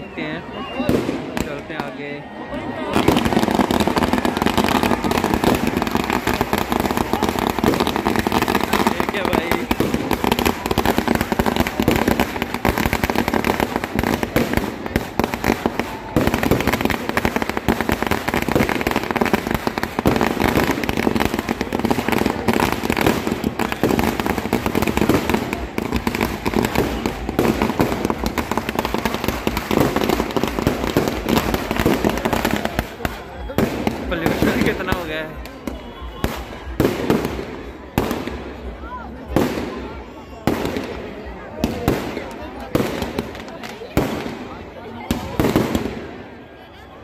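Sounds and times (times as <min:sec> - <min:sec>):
firecrackers crackling and popping: 0:00.0 - 0:47.0.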